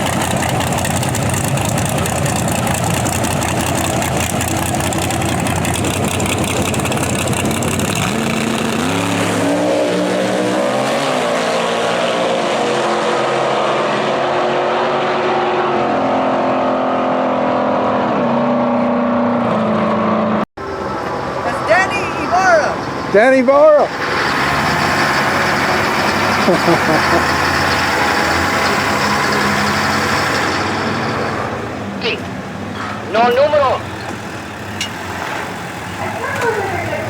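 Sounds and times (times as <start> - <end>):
drag race car engines revving: 0.0 - 37.0.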